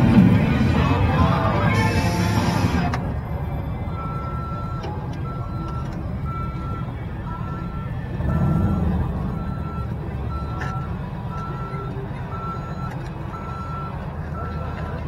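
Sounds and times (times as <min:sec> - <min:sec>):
low engine rumble: 0:00.0 - 0:15.0
reversing alarm beeping: 0:00.0 - 0:15.0.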